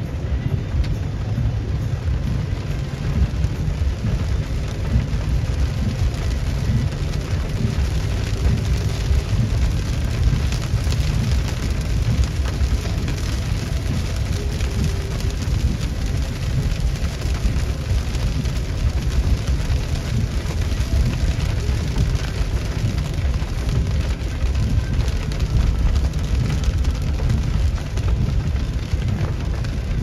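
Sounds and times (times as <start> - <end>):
deep low rumble: 0.0 - 30.0
heavy rain pouring: 0.0 - 30.0.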